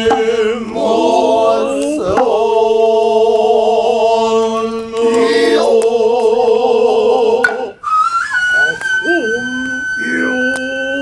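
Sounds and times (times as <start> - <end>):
person chanting long notes: 0.0 - 11.0.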